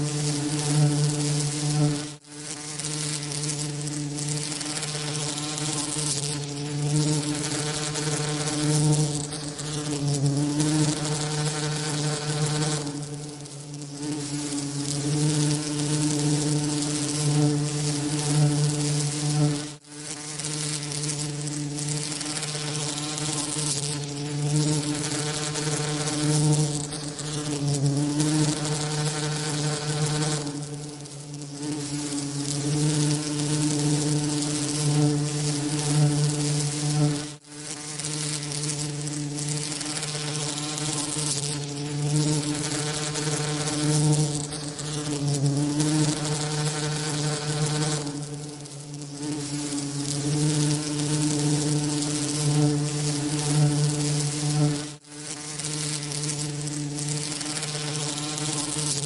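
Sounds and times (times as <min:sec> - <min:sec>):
even hiss: 0:00.0 - 0:59.0
low bee buzz: 0:00.0 - 0:59.0.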